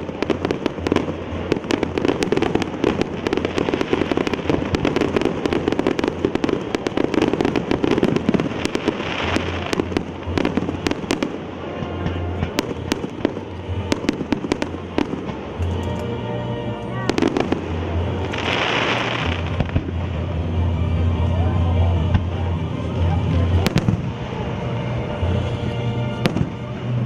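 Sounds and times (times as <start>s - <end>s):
fireworks bursting and crackling: 0.0s - 27.0s
music playing: 0.0s - 27.0s.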